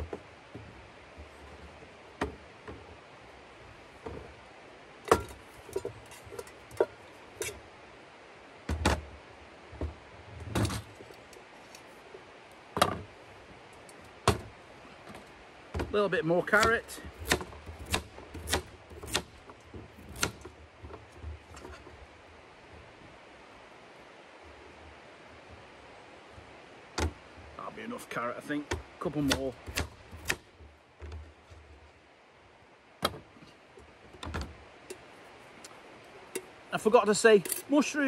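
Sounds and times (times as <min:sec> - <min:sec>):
low background hiss: 0:00.0 - 0:38.0.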